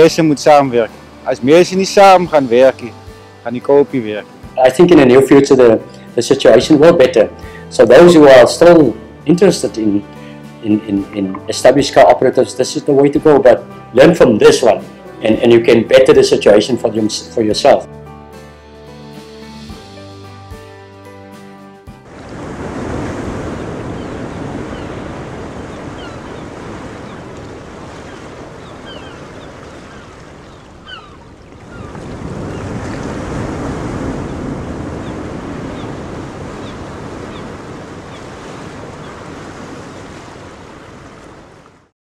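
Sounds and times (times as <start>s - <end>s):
ocean waves rushing: 0.0s - 17.9s, 21.9s - 41.9s.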